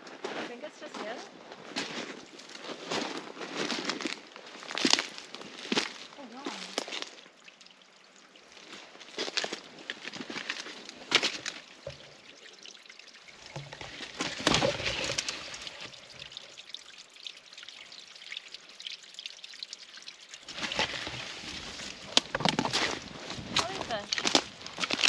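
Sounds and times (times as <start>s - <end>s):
water trickling among stones: 0.2s - 25.0s.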